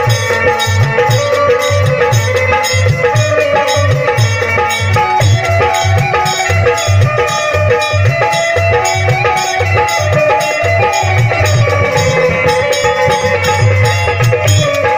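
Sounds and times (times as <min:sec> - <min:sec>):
electronic keyboard melody: 0:00.0 - 0:14.9
hand drum rhythm: 0:00.0 - 0:14.9.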